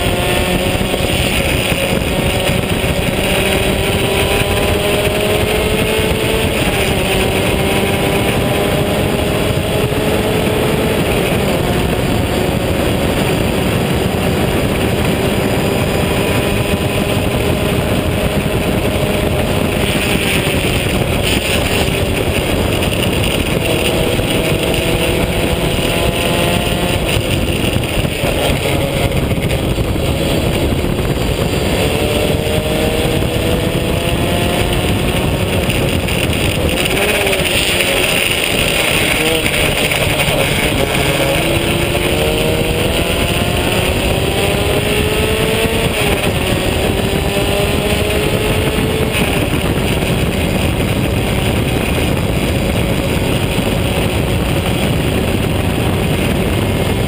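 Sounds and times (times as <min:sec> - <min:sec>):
race car engine accelerating: 0:00.0 - 0:57.0
wind and road noise: 0:00.0 - 0:57.0.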